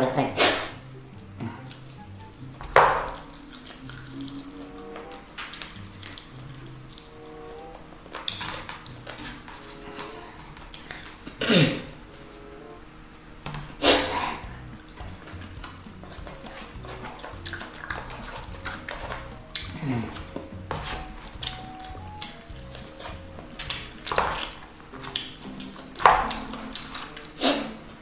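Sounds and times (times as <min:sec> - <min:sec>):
background music: 0:00.0 - 0:28.0
crunchy chewing of fried chicken: 0:01.2 - 0:11.4, 0:13.8 - 0:27.8.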